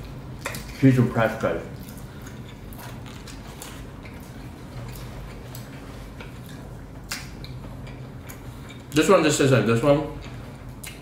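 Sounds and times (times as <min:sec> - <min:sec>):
steady low hum: 0:00.0 - 0:11.0
wet clicks and squishing of food: 0:00.4 - 0:00.8, 0:01.4 - 0:09.1, 0:10.2 - 0:11.0.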